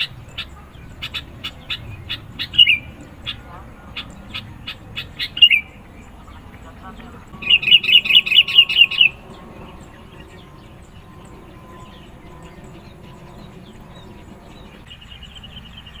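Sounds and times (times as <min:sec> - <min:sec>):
bulbul chirping calls: 0:00.0 - 0:16.0.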